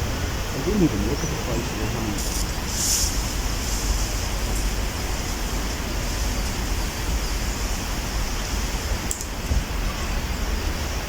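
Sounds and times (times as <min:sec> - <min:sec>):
rushing noise with fluttering rumble: 0:00.0 - 0:11.0.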